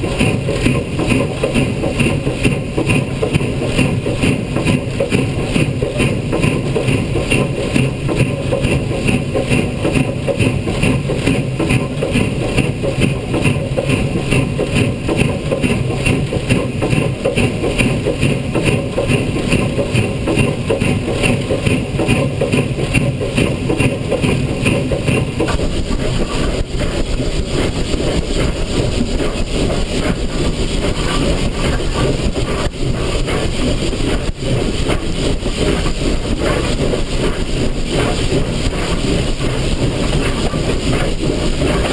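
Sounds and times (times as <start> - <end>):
steam locomotive rhythmic beat: 0.0 - 41.9
steam rushing sound: 0.0 - 41.9.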